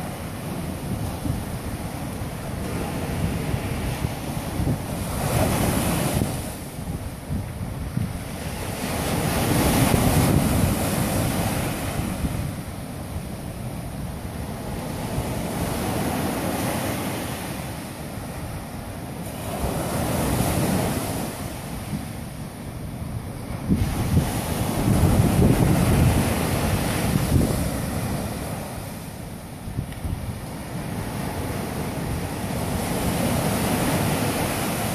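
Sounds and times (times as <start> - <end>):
surf breaking on a beach: 0.0 - 34.9
wind buffeting microphone: 0.0 - 34.9.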